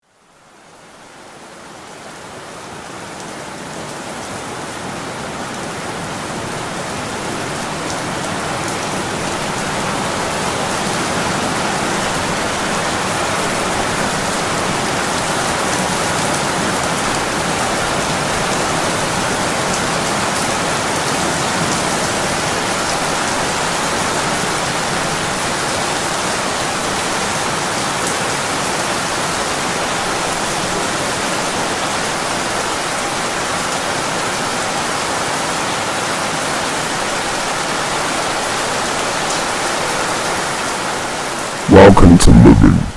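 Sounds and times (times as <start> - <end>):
steady rain falling: 0.1 - 41.6.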